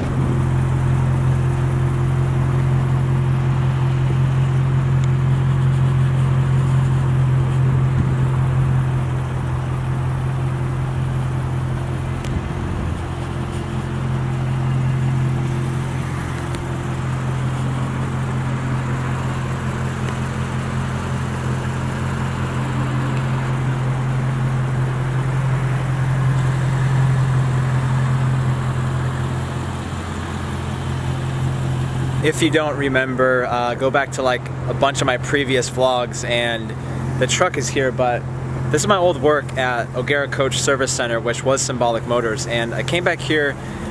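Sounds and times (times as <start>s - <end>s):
car engine droning: 0.0s - 43.9s
tyre and road noise: 0.0s - 43.9s.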